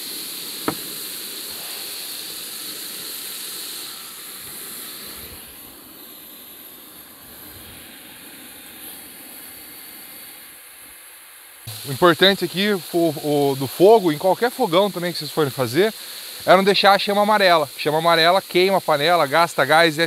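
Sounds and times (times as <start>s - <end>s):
food sizzling in oil: 0.0s - 9.2s, 11.6s - 20.0s.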